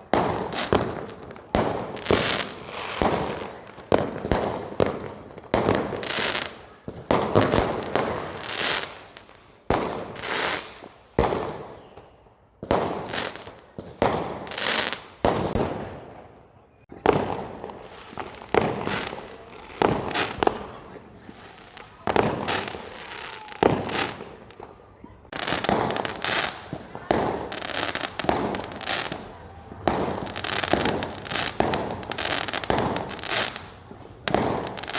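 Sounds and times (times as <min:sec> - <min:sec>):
fireworks bangs with crackling: 0:00.0 - 0:34.9.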